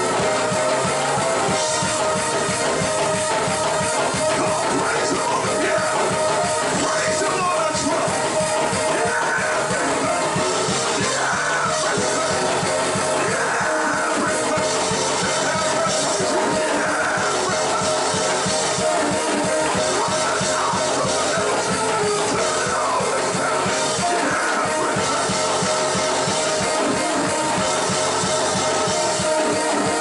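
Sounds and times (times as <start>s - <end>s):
band music with drums and guitar: 0.0s - 30.0s.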